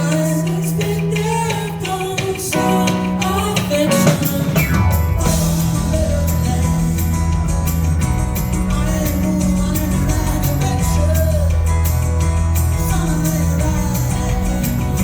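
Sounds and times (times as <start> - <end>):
drum kit: 0.0 - 15.0
guitars: 0.0 - 15.0
person singing: 0.0 - 15.0.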